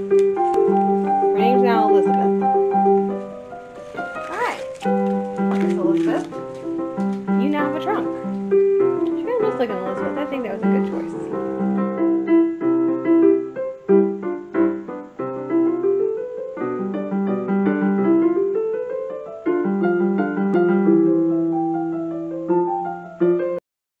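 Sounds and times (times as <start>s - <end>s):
piano music: 0.0s - 23.6s.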